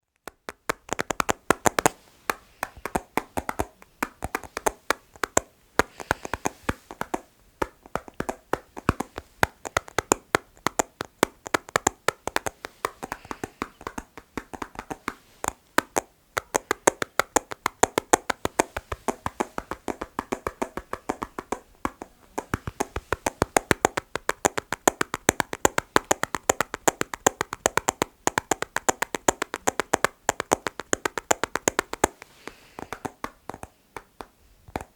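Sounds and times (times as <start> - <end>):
fingers tapping on objects: 0.0 - 34.9.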